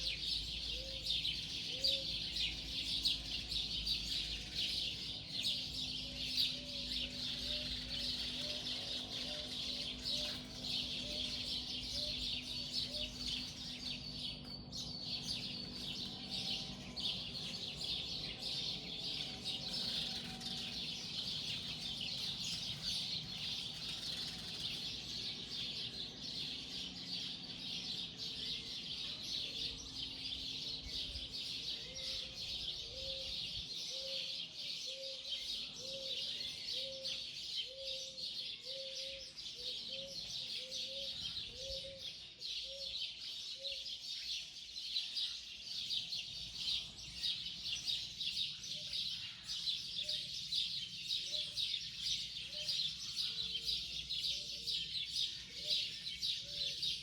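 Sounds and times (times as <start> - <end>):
bird chorus: 0.0 - 57.0.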